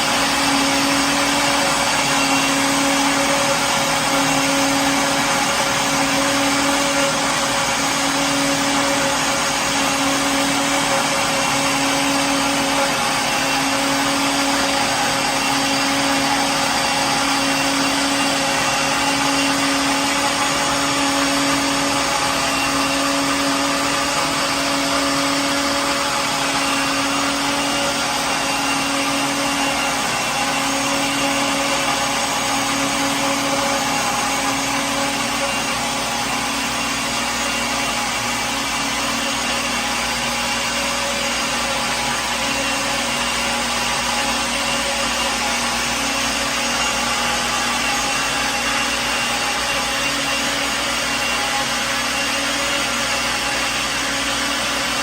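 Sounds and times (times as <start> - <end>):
kitchen blender running: 0.0 - 55.0.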